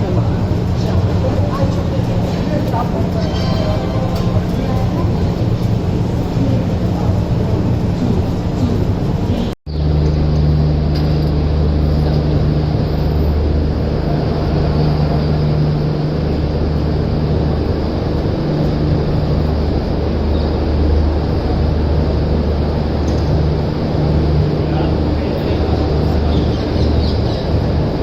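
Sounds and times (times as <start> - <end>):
train humming and rumbling: 0.0 - 28.0.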